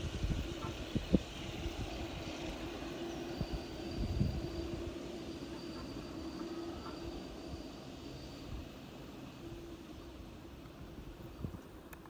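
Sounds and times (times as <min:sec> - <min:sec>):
thin high whine: 0:00.0 - 0:11.7
jet engines humming: 0:00.0 - 0:12.0.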